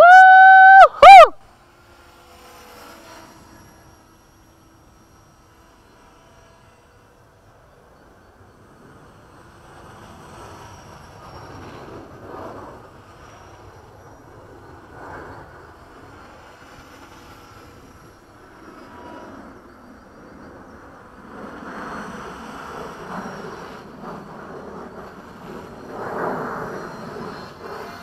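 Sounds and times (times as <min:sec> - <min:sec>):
radio-controlled helicopter flying: 0:00.0 - 0:28.0.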